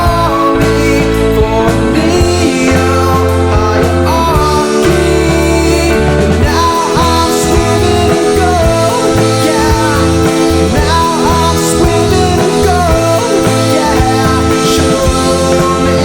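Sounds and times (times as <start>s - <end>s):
bending guitar lines: 0.0s - 16.0s
held bass notes: 0.0s - 16.0s
psychedelic rock music: 0.0s - 16.0s.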